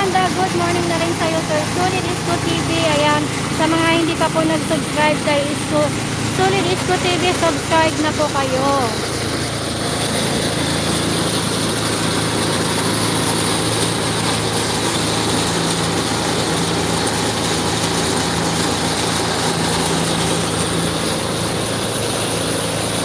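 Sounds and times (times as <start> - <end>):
truck engine running: 0.0 - 23.0
water spraying from hose: 0.0 - 23.0.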